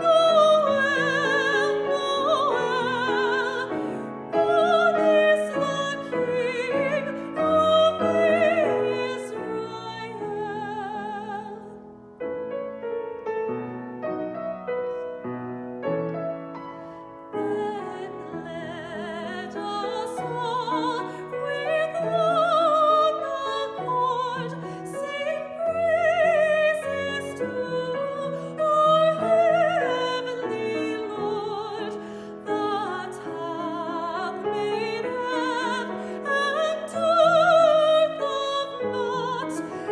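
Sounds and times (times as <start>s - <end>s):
soprano singing: 0.0s - 15.4s, 16.0s - 39.9s
piano accompaniment: 0.0s - 39.9s.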